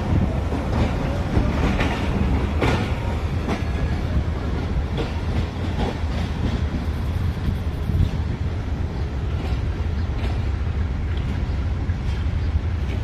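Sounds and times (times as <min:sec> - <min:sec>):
train wheels clacking over rail joints: 0:00.0 - 0:08.3, 0:09.3 - 0:13.0.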